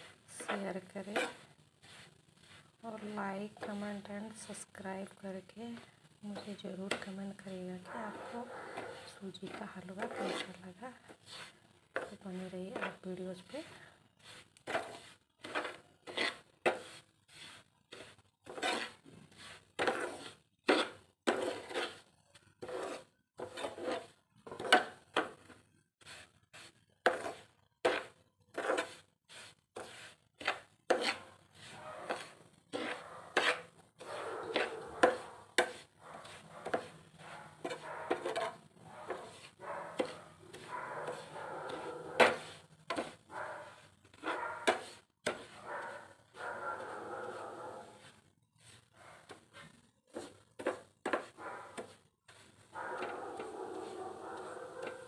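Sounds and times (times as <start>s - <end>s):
spatula scraping a pan: 0.0s - 55.0s.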